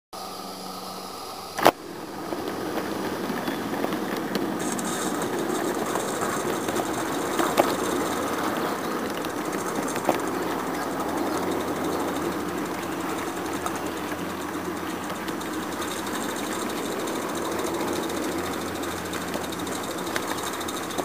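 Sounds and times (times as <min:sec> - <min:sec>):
steam hissing: 0:00.2 - 0:21.0
steam locomotive running: 0:00.2 - 0:21.0.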